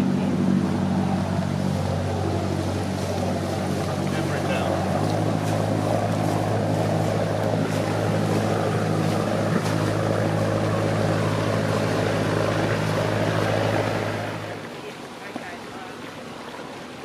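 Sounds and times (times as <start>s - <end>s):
boat diesel engine humming: 0.0s - 17.0s
propeller wash churning: 0.0s - 17.0s.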